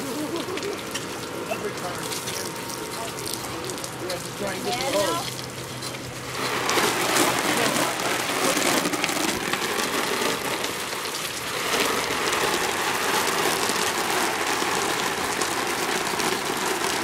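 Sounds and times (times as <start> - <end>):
hose water spraying on trampoline: 0.0 - 17.0.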